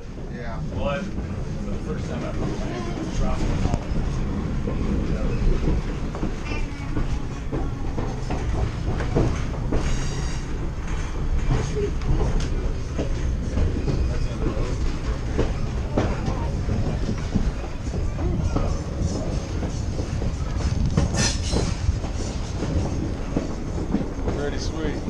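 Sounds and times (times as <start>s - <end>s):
train rumbling: 0.0s - 25.0s
wheels clacking over rail joints: 1.1s - 25.0s.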